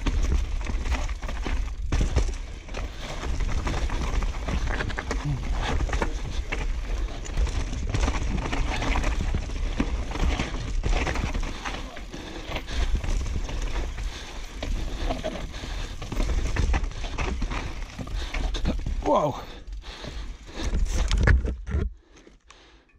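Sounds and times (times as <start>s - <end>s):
bike tyres on dirt: 0.0s - 21.3s
bike rattling: 0.0s - 21.4s.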